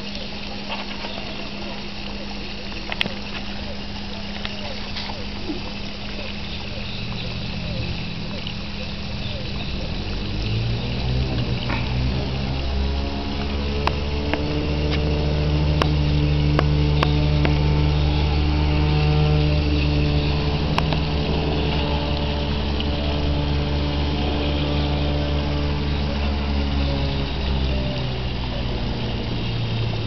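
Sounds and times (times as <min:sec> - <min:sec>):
fountain water splashing: 0:00.0 - 0:30.0
low motor hum: 0:00.0 - 0:30.0.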